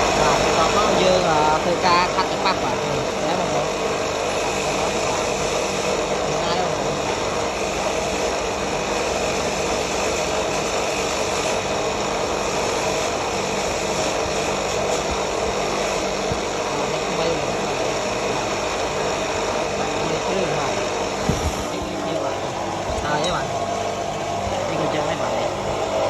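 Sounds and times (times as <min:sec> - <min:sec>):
motor whirring: 0:00.0 - 0:26.0.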